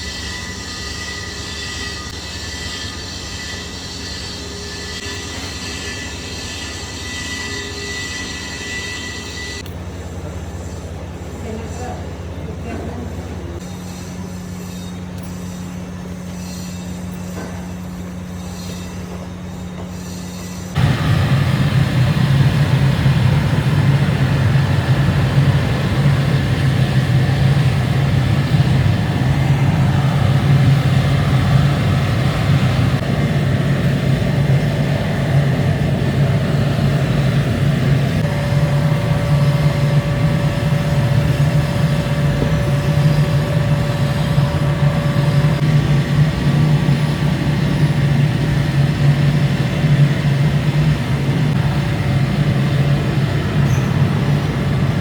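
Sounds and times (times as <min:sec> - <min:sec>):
machinery low hum: 0:00.0 - 0:55.0.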